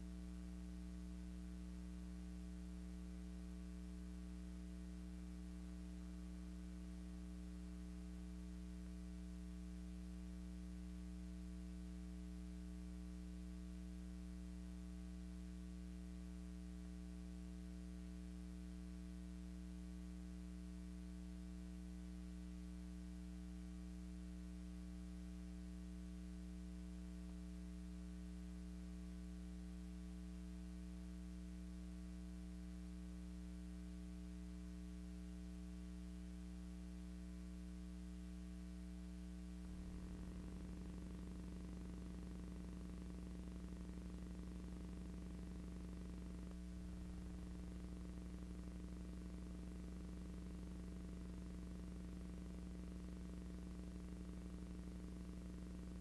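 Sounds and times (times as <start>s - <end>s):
mains hum: 0.0s - 56.0s.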